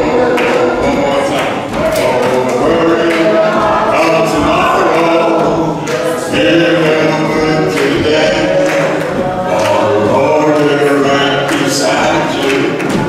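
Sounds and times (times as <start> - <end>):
church choir singing: 0.0 - 13.0.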